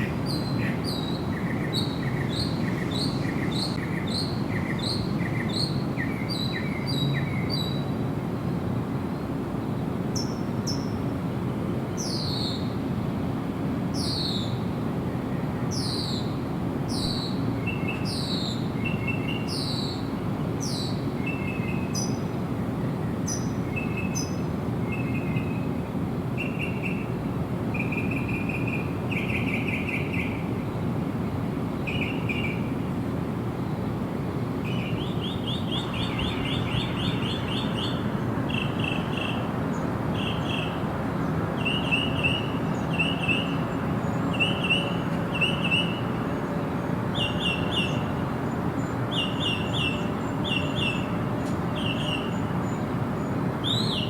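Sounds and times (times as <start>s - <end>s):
birds singing: 0.0s - 7.9s, 14.0s - 14.7s, 15.3s - 25.8s, 26.4s - 31.0s, 31.7s - 32.7s, 34.5s - 54.0s
low rushing background noise: 0.0s - 54.0s.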